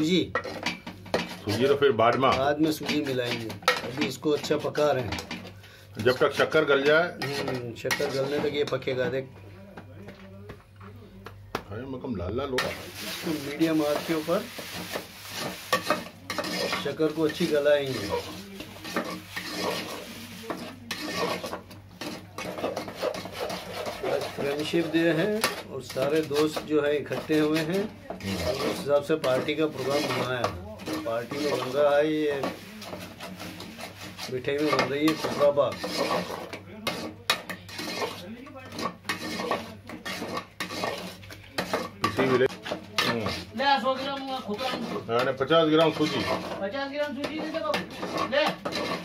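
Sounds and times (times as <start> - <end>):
metal spatula scraping a pot: 0.0 - 9.3, 12.5 - 49.0.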